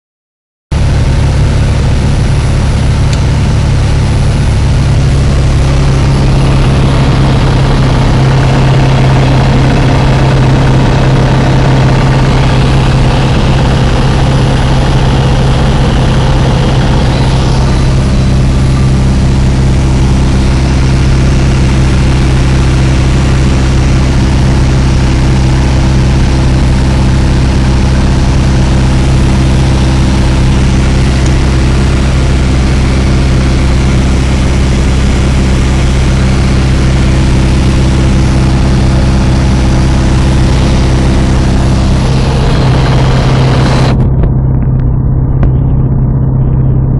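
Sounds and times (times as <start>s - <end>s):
light aircraft engine hum: 0.7s - 46.9s.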